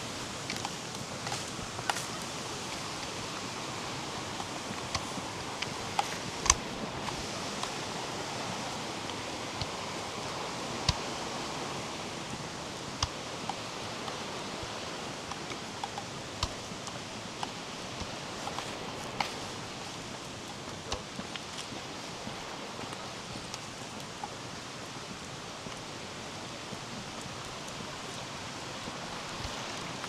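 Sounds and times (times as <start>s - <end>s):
flowing water rushing: 0.0s - 30.0s
footsteps on forest trail: 0.0s - 30.0s.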